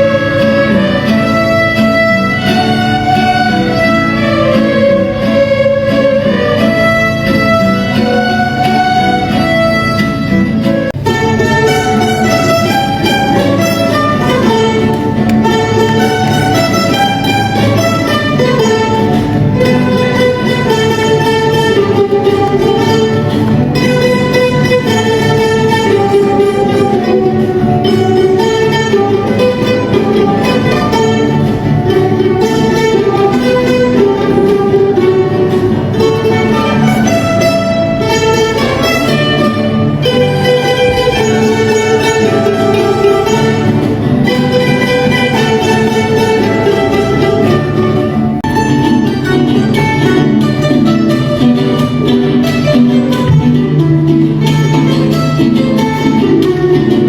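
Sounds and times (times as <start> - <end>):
live music with guitars and violins: 0.0 - 57.0.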